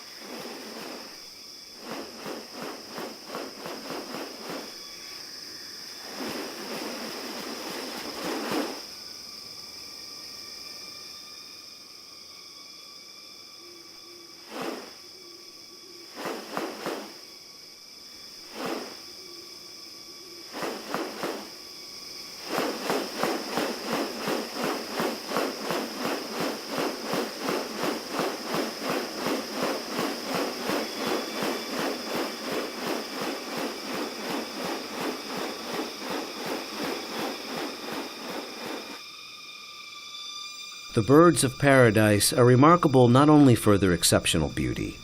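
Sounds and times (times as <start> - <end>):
insects buzzing: 0.0 - 45.0.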